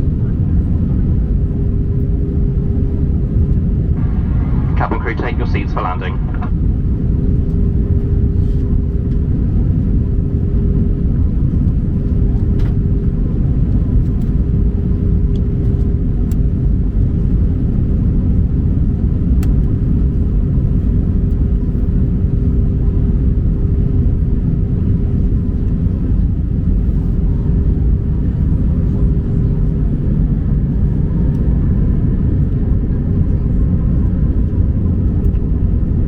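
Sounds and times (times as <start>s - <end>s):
aircraft cabin rumble: 0.0s - 36.0s
constant hum: 0.0s - 36.0s.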